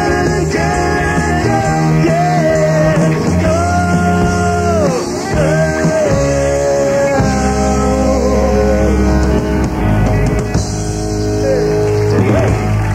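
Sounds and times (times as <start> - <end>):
bass guitar: 0.0 - 12.9
drums: 0.0 - 12.9
electric guitar wavering notes: 0.0 - 12.9.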